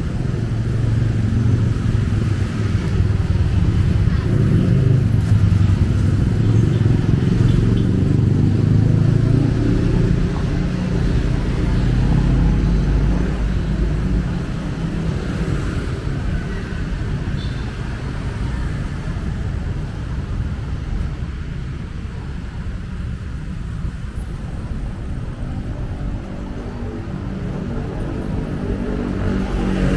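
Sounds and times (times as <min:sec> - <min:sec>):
cars and motorcycles passing: 0:00.0 - 0:29.9.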